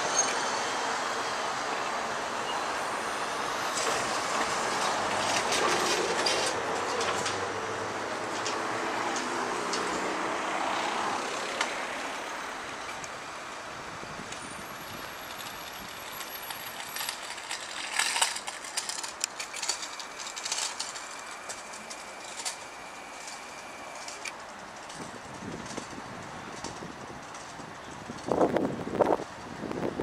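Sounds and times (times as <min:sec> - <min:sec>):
city traffic: 0:00.0 - 0:30.0.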